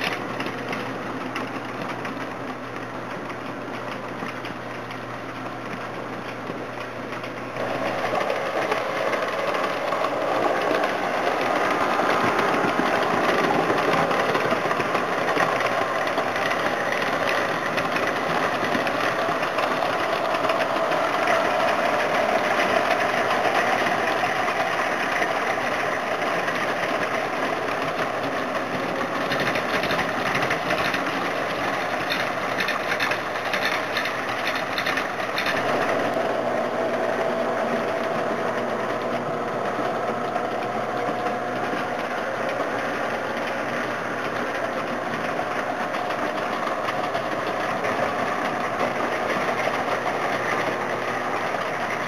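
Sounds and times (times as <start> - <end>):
model train wheels clattering: 0.0 - 52.0
model train motor whir: 6.5 - 52.0.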